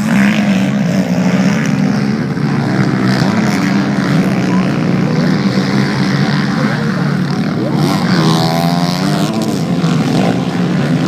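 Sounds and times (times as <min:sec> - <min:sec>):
motocross bike engines: 0:00.0 - 0:11.0.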